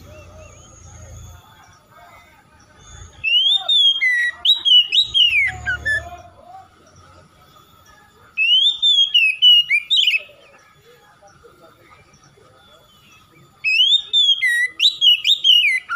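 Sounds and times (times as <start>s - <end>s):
bird singing whistled notes: 0.0s - 15.9s.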